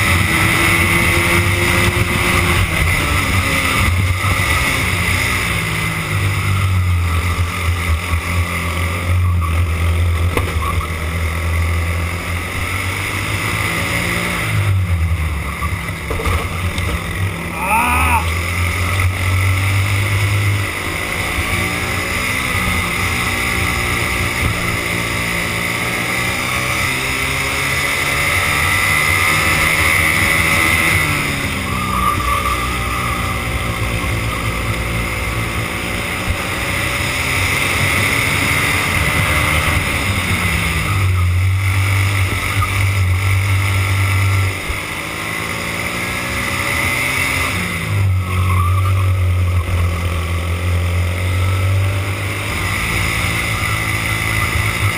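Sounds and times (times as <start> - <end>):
racing kart engine revving: 0.0 - 54.9.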